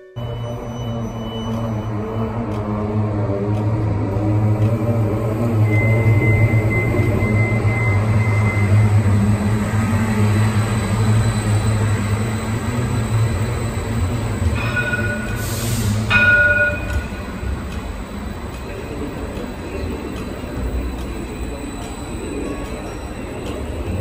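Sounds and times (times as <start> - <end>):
tram rumbling on rails: 0.0 - 24.0
high wheel squeal: 0.2 - 2.4, 5.4 - 24.0.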